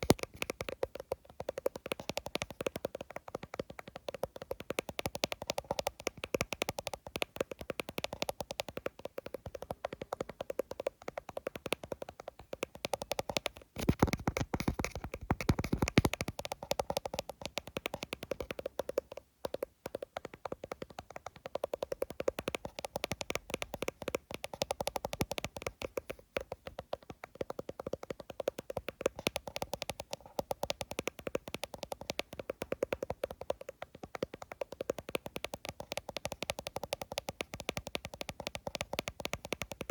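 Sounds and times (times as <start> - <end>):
fingers tapping on phone screen: 0.0 - 39.9.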